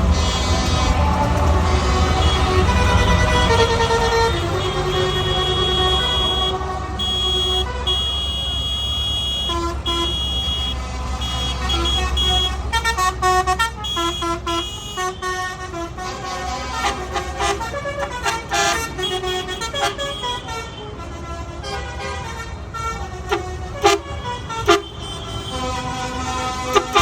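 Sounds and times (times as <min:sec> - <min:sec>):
tractor engines rumbling: 0:00.0 - 0:27.0
tractor horns tooting: 0:00.0 - 0:27.0.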